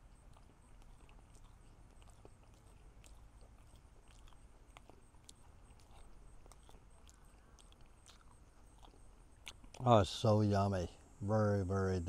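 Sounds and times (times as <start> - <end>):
person chewing food: 0.0 - 10.2.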